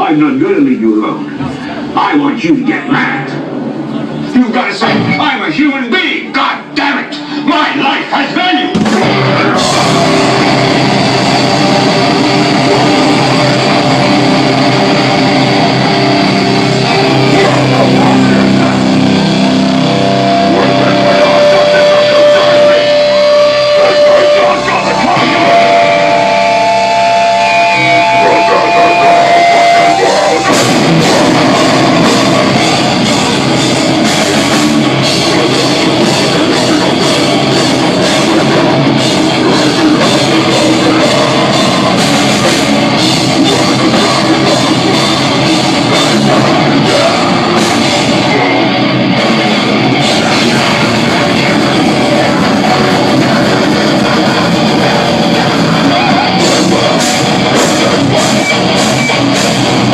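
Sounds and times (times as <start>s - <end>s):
heavy rock music: 0.0s - 59.9s.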